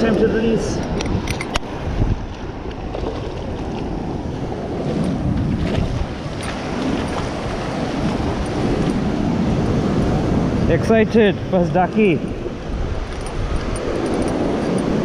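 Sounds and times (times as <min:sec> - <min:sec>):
surf washing in shallow water: 0:00.0 - 0:15.0
wind buffeting microphone: 0:00.0 - 0:15.0.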